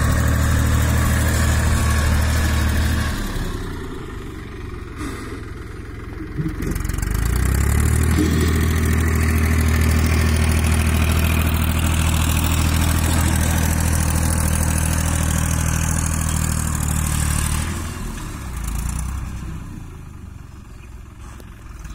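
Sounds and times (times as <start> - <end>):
tractor diesel engine under load: 0.0 - 21.9.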